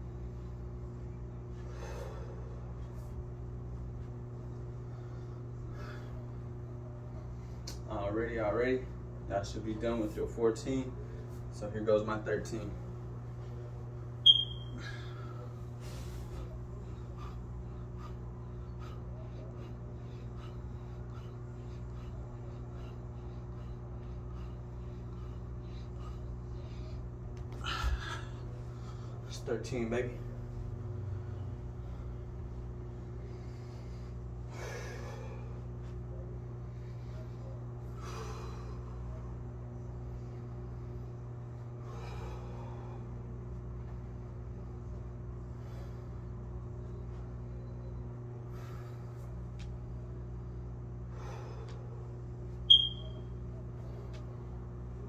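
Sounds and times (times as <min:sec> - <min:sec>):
man breathing rhythmically: 0:00.0 - 0:07.8, 0:14.6 - 0:52.7
low room hum: 0:00.0 - 0:55.0.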